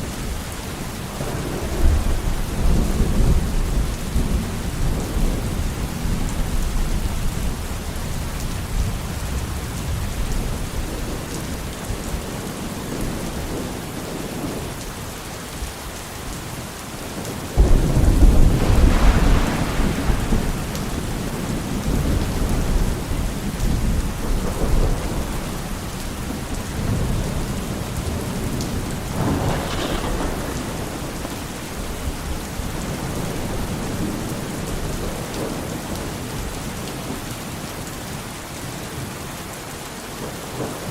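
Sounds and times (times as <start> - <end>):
steady rain falling: 0.0 - 40.9
thunder crack and rumble: 1.2 - 14.7, 17.2 - 36.6.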